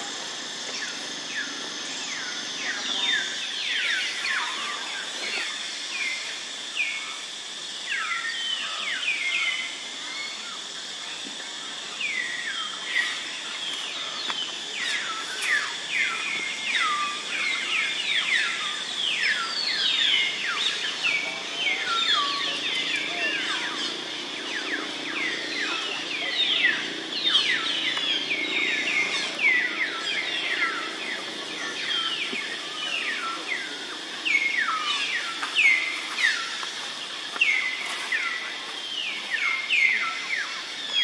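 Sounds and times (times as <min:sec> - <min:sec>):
birds chirping: 0:00.0 - 0:41.0
high insect drone: 0:00.0 - 0:41.0.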